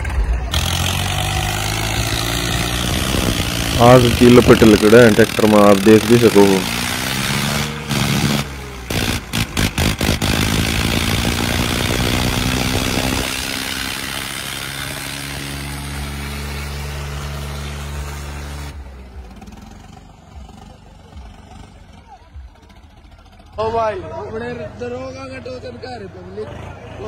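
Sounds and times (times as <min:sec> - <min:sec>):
diesel tractor engine running hard: 0:00.0 - 0:27.0.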